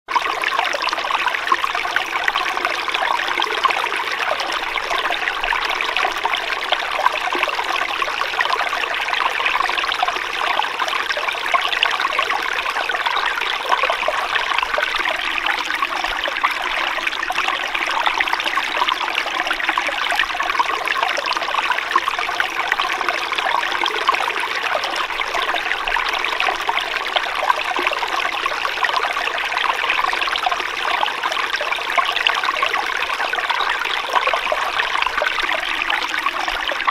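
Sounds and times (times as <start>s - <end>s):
stream trickling and babbling: 0.1s - 36.9s.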